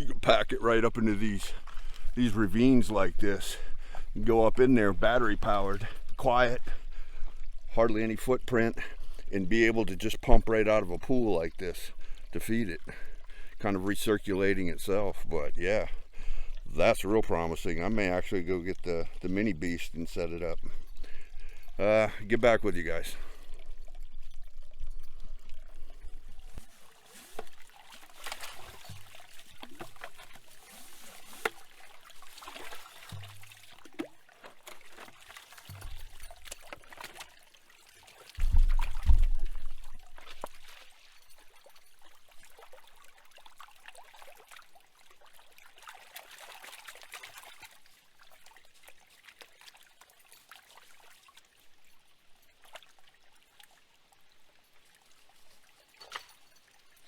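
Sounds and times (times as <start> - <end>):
stream trickling and splashing: 0.0 - 57.0.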